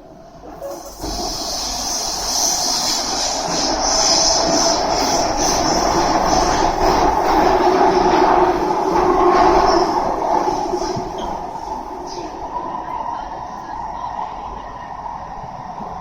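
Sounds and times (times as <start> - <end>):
metro train cabin noise: 0.0 - 16.0
wheel-on-rail noise: 0.0 - 16.0.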